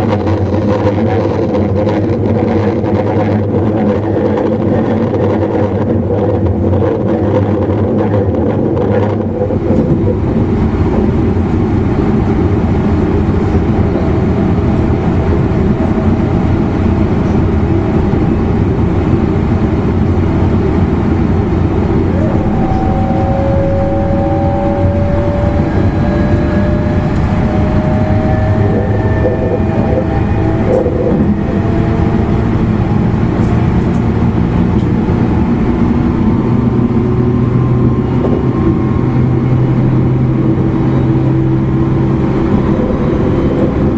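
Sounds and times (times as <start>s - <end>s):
traction motor whine: 0.0s - 43.9s
train rumbling at speed: 0.0s - 43.9s.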